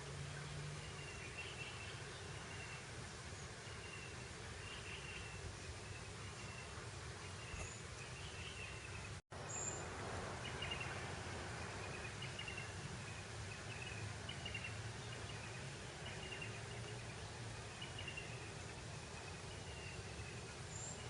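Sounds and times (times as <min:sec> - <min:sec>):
breeze over grassland: 0:00.0 - 0:21.0.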